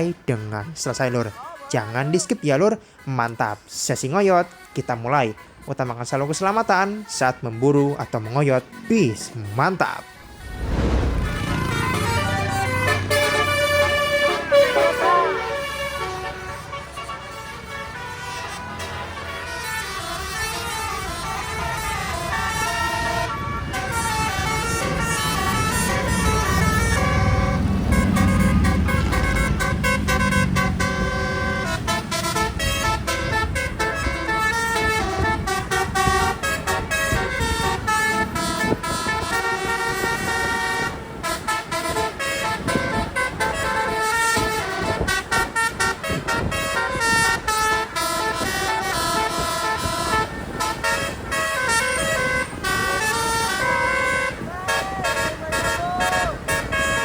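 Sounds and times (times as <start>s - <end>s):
bus air horns playing tunes: 4.0s - 57.0s
heavy bus engine rumble: 7.5s - 57.0s.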